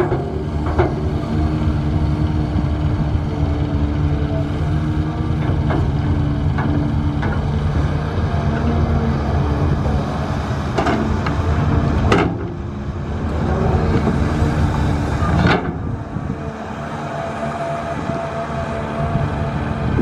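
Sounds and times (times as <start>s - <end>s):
diesel machinery engine rumble: 0.0s - 20.0s.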